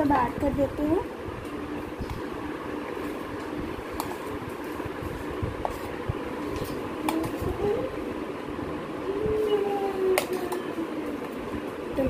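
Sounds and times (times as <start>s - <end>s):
rumbling hum: 0.0s - 12.0s.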